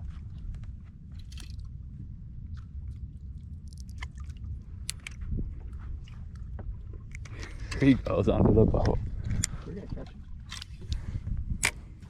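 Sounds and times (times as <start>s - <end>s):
steady low rumble: 0.0s - 12.0s
water lapping around a boat: 0.0s - 12.0s.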